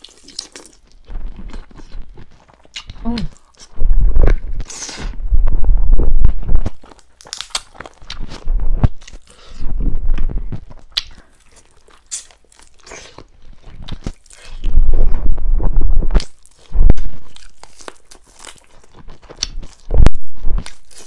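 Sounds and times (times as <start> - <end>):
chewing and crunching chicken: 0.0 - 5.0, 6.7 - 15.0, 16.2 - 21.0.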